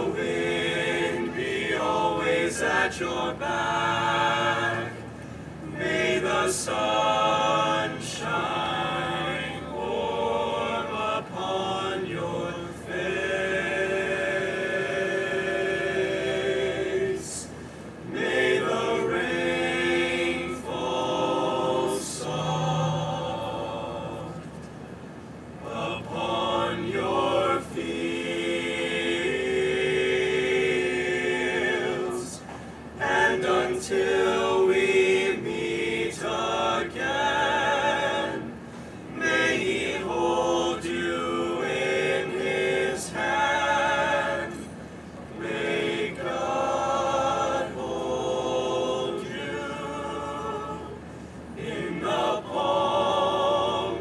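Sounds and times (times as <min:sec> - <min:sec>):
male a cappella group singing: 0:00.0 - 0:24.6, 0:25.6 - 0:54.0.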